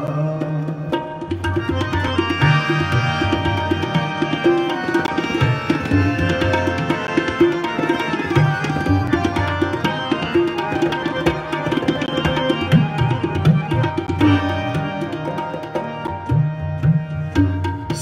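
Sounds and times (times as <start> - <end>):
harmoniums playing sustained notes: 0.0 - 18.0
tabla playing fast rhythm: 0.0 - 18.0.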